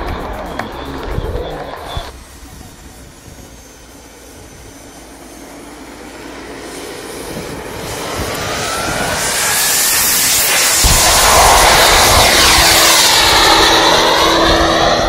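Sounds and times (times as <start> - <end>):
model turbine jet engine whine: 0.0 - 15.0.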